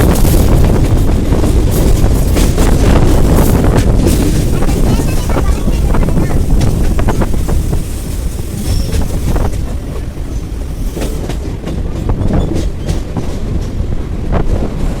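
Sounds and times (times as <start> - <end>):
electric train rumbling: 0.0 - 15.0
wheels clacking over rail joints: 0.0 - 15.0.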